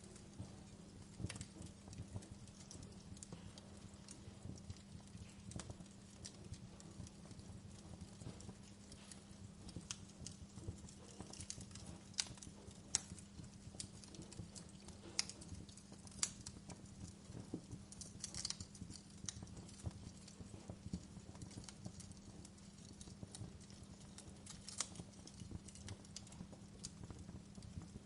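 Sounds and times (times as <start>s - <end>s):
campfire wood crackling: 0.0s - 28.0s
steady low hum: 0.0s - 28.0s.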